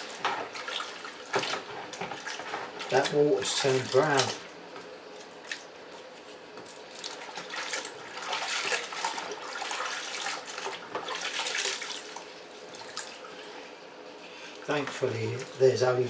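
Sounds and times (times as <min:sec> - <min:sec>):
water sloshing and splashing: 0:00.0 - 0:14.0, 0:14.6 - 0:16.0.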